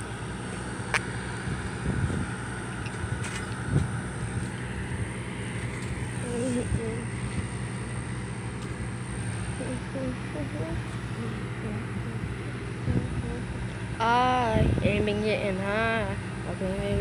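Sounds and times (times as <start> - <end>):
motor droning: 0.0 - 17.0.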